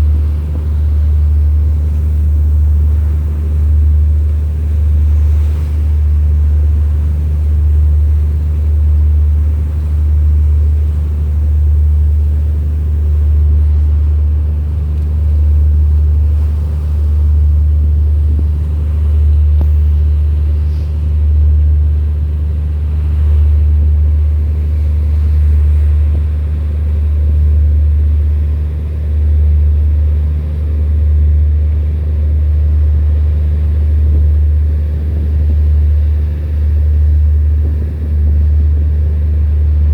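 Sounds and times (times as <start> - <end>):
low boat engine rumble: 0.0 - 39.9.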